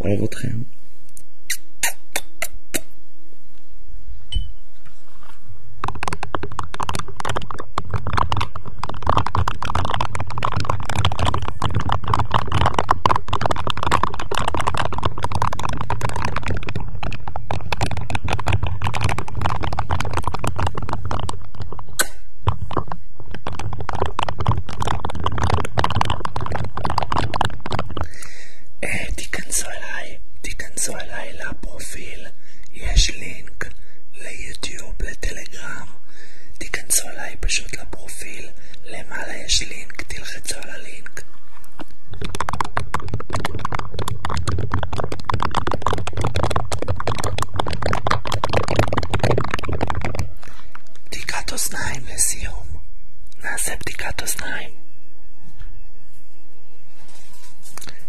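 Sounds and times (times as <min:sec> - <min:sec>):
crackling and scratching on microphone: 0:04.8 - 0:36.0, 0:36.6 - 0:54.8, 0:56.9 - 0:58.0.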